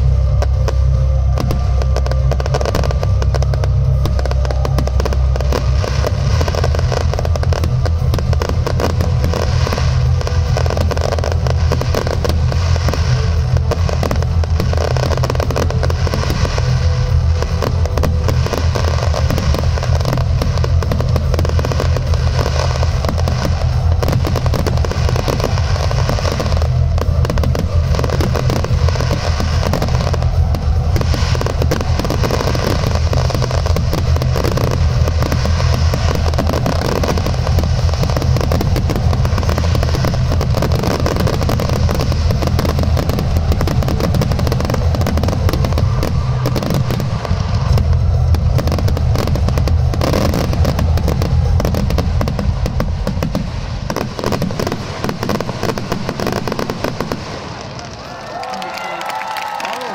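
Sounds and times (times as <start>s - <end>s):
heavy low rumble: 0.0s - 58.2s
fireworks bursting and crackling: 0.0s - 59.9s.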